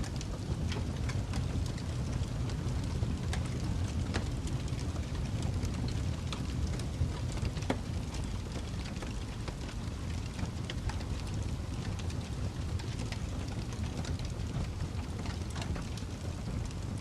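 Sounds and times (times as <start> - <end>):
fireplace fire burning: 0.0 - 17.0.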